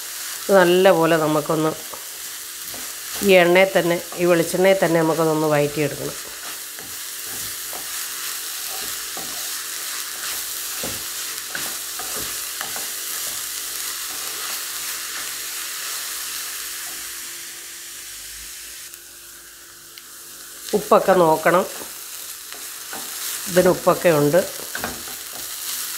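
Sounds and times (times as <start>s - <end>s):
vegetables sizzling in oil: 0.0s - 25.9s.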